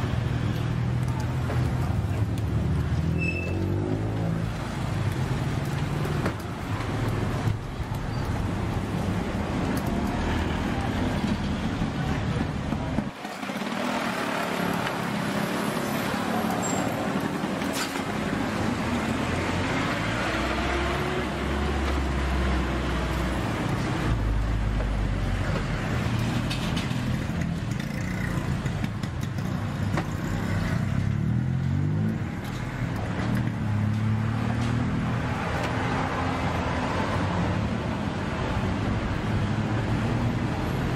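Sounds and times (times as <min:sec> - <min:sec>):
engine and traffic drone: 0:00.0 - 0:40.9.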